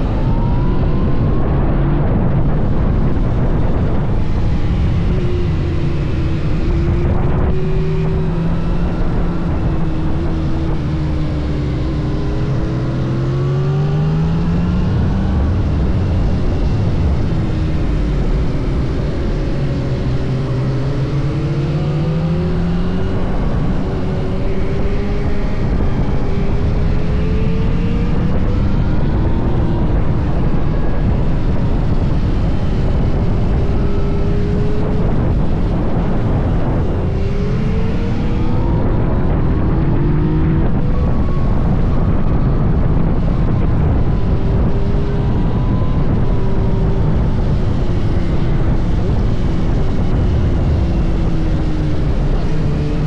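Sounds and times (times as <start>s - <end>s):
motorcycle engine revving: 0.0s - 53.0s
wind noise: 0.0s - 53.0s.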